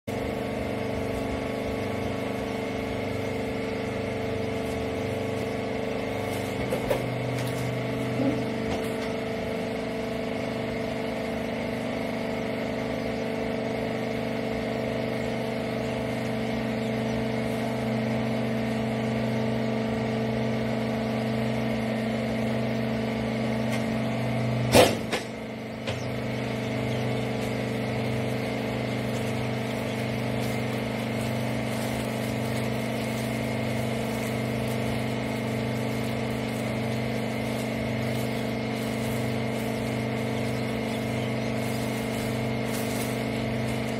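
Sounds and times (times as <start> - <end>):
hydraulic power unit humming: 0.0 - 43.9.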